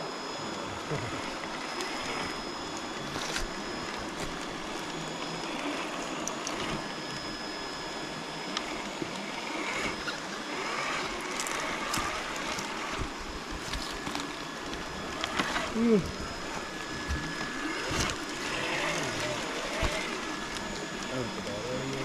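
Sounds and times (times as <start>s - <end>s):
thin high whine: 0.0s - 22.0s.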